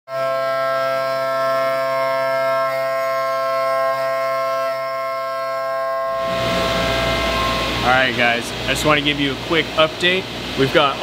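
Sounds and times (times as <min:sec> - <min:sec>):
milling cutter whine: 0:00.1 - 0:11.0.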